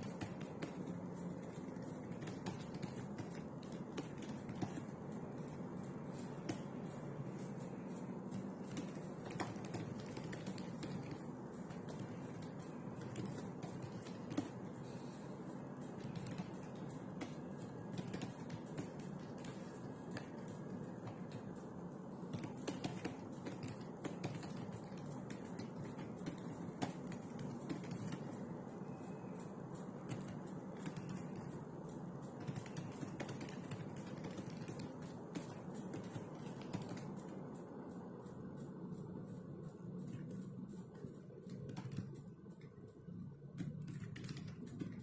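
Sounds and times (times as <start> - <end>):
low background hum: 0.0 - 45.0.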